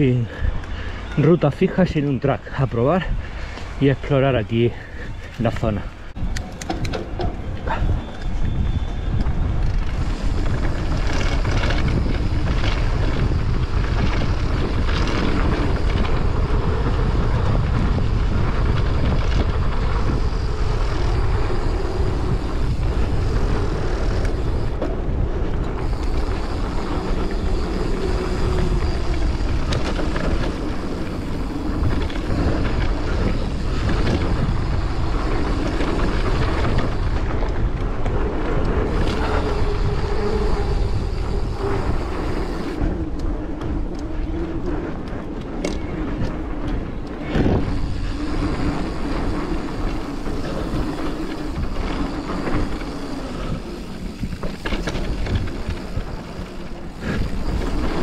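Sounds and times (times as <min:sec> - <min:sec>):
tyres rolling on gravel: 0:00.0 - 0:58.0
wind buffeting microphone: 0:00.0 - 0:58.0
bike knocks and rattles: 0:06.2 - 0:58.0.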